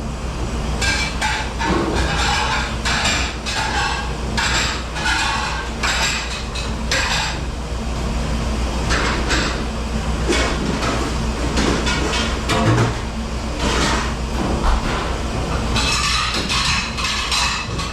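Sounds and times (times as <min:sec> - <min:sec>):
low machine hum: 0:00.0 - 0:17.9
dishes and racks clattering: 0:00.8 - 0:07.5, 0:08.8 - 0:17.9.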